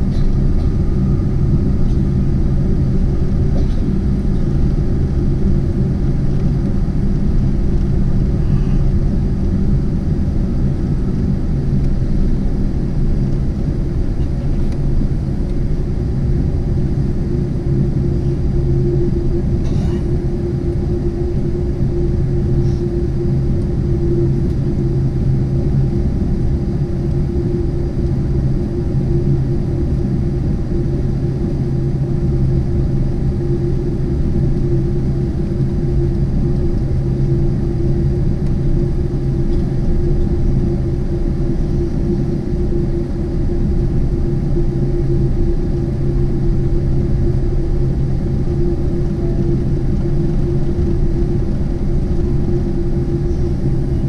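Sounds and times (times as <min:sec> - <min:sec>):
airplane cabin rumble: 0:00.0 - 0:54.0
constant droning hum: 0:00.0 - 0:54.0.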